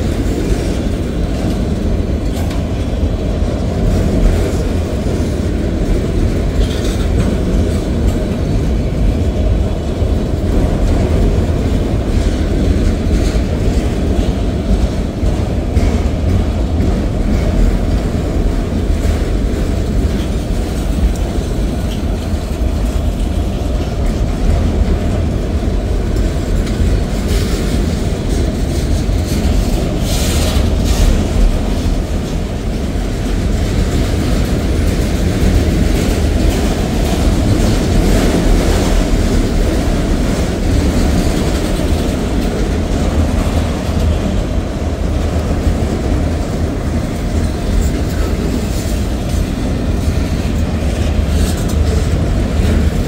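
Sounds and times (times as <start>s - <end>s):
train wheels rumbling and clattering: 0.0s - 53.0s.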